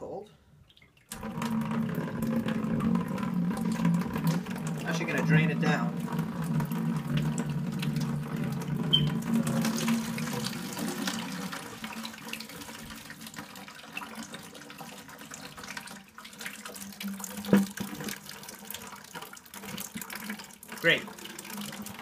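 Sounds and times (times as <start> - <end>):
water draining into plastic bucket: 0.6 - 22.0.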